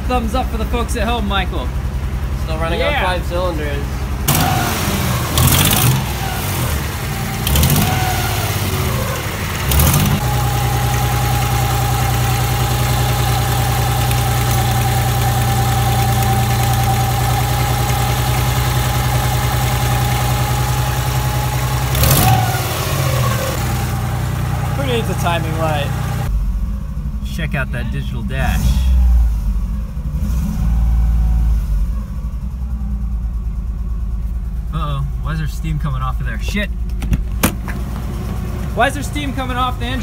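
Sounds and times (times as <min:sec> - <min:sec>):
car engine revving and idling: 0:00.0 - 0:40.0.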